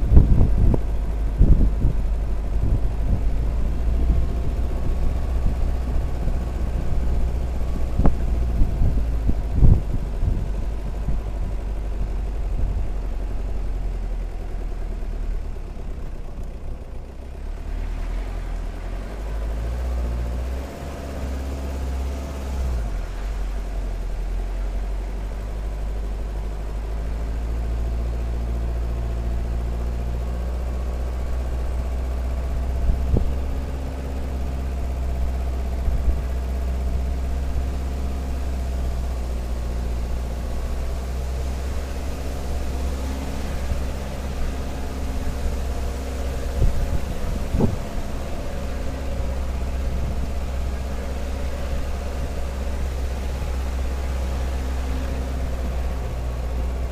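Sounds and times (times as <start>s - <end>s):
engine running at low revs: 0.0s - 56.9s.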